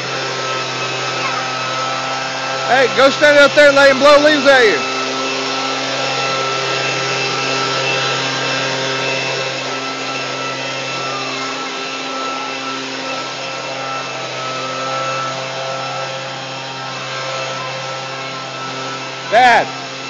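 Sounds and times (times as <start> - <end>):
leaf blower running: 0.0 - 20.0.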